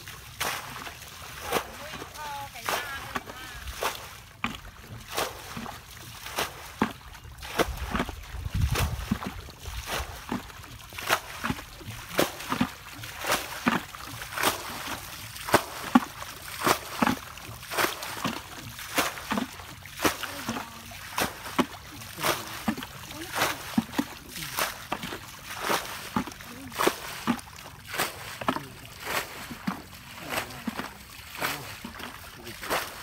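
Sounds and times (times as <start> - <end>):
bucket splashing water: 0.0 - 33.0.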